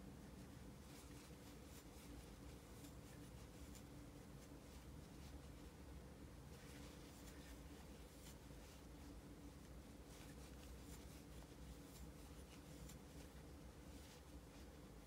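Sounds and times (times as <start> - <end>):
steady low hum: 0.0 - 15.0
crochet hook scratching yarn: 0.3 - 5.8, 6.5 - 15.0.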